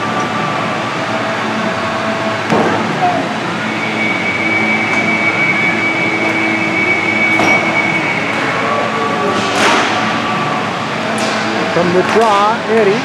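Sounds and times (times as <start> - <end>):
indistinct voices: 0.0 - 13.0.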